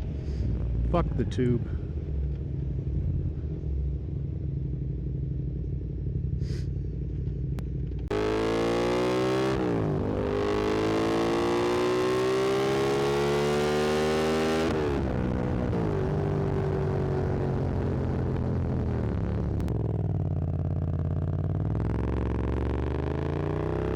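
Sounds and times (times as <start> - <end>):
motorcycle engine accelerating: 1.8 - 23.9.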